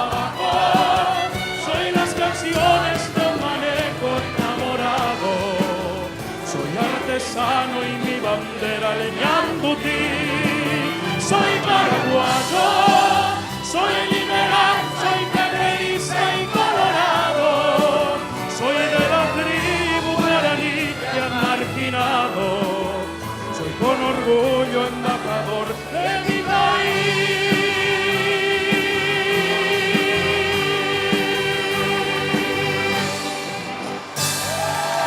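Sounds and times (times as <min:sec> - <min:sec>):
man singing solo: 0:00.0 - 0:32.7
children's choir singing: 0:00.0 - 0:35.0
orchestra playing: 0:00.0 - 0:35.0.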